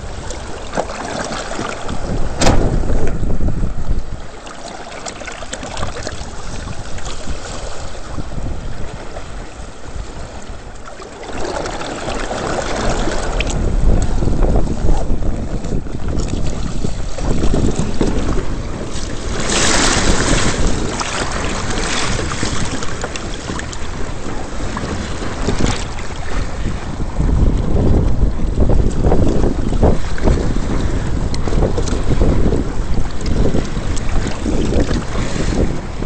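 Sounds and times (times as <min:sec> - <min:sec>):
water rushing against hulls: 0:00.0 - 0:36.0
wind buffeting microphone: 0:00.0 - 0:36.0.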